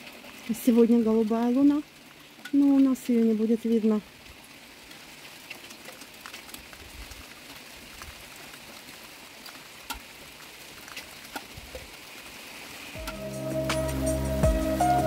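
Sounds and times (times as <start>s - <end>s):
rain falling on foliage: 0.0s - 15.0s.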